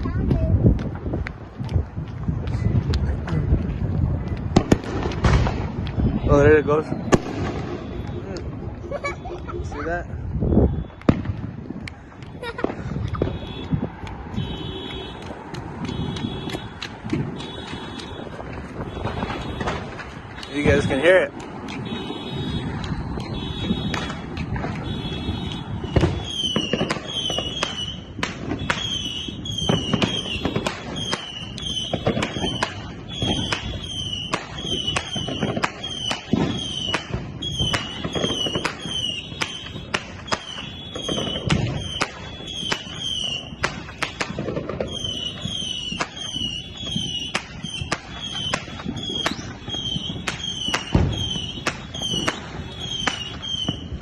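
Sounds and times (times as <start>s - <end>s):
deep firework booms: 0.0s - 9.0s, 9.6s - 54.0s
fireworks popping and banging: 0.0s - 54.0s.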